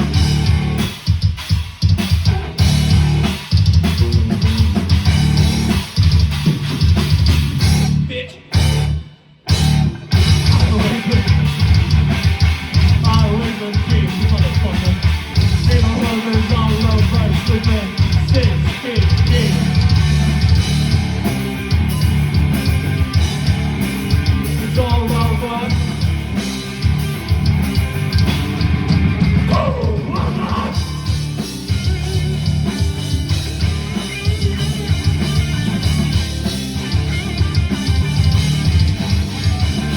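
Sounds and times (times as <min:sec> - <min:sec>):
loud rock music with singing: 0:00.0 - 0:39.9.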